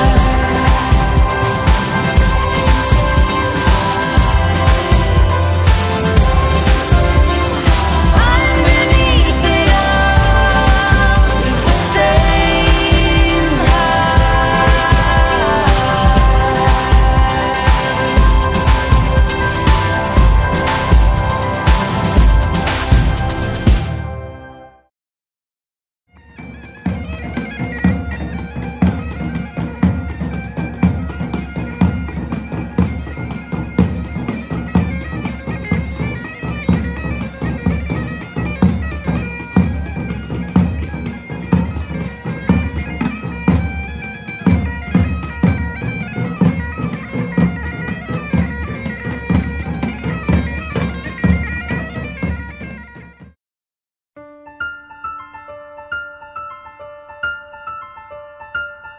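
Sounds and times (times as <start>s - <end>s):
drum beats: 0.0s - 24.2s, 26.2s - 53.4s
bagpipes playing over drone: 0.0s - 24.6s, 26.5s - 53.2s.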